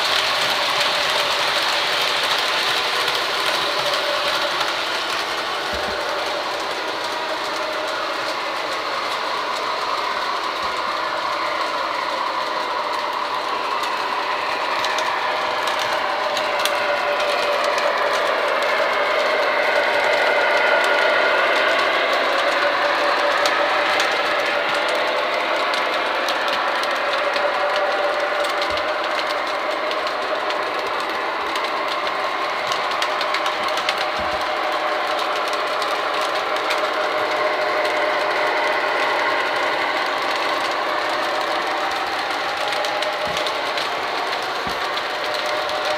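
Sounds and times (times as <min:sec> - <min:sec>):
model train motors whirring: 0:00.0 - 0:45.9
wheel clicks over rails: 0:00.0 - 0:45.9.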